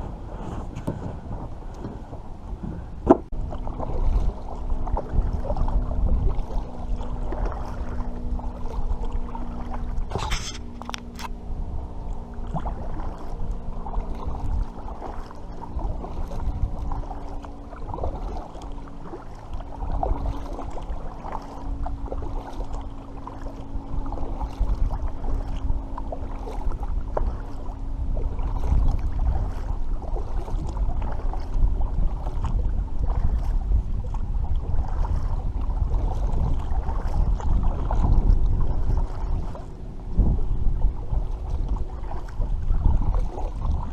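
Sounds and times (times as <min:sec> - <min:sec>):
steady low hum: 0:00.0 - 0:43.9
water knocking and splashing on hull: 0:00.0 - 0:43.9
wind rumbling on microphone: 0:00.0 - 0:43.9.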